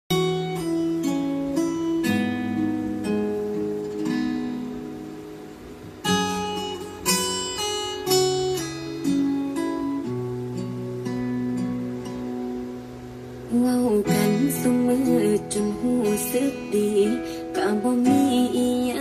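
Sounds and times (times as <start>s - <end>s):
plucked guitar chords: 0.1s - 19.0s.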